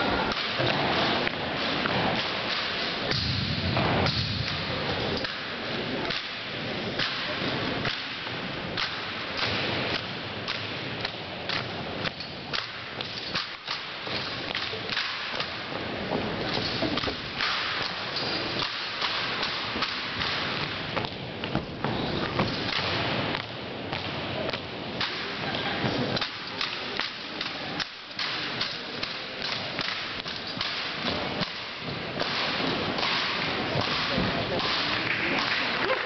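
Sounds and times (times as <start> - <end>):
rifles being slapped: 0.3 - 4.6, 5.2 - 15.7, 16.5 - 36.0.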